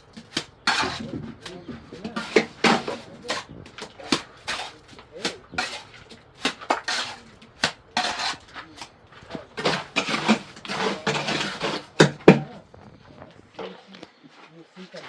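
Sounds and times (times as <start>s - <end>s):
scraping and clattering strokes: 0.0s - 13.8s.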